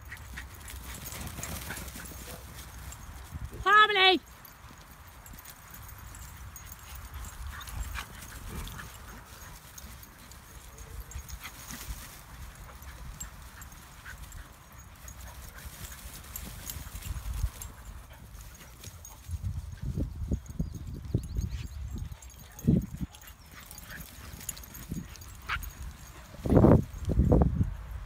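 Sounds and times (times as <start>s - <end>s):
dogs running on grass: 0.0s - 28.0s.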